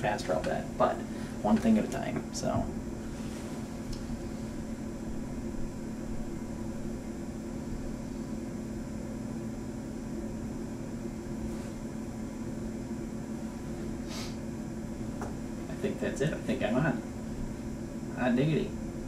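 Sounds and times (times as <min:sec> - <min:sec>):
room tone hum and hiss: 0:00.0 - 0:19.0.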